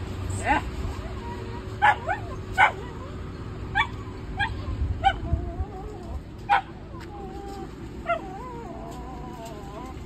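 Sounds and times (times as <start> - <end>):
dog yelping and whining: 1.0 - 10.0.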